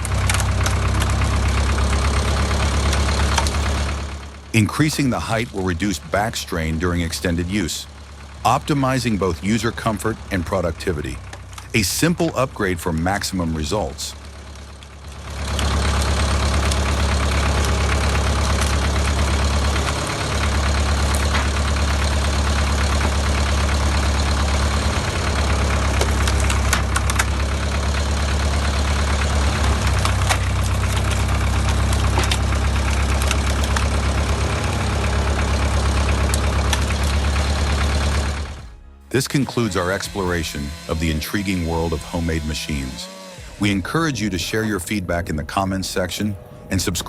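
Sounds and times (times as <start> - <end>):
log splitter humming: 0.0 - 47.0.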